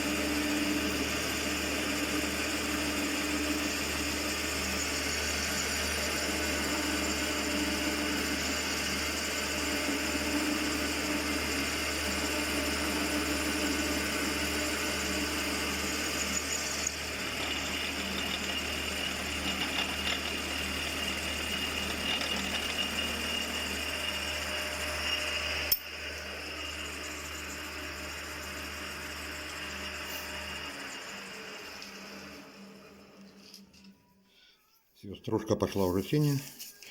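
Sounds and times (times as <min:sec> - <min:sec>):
milling machine whirring: 0:00.0 - 0:34.0.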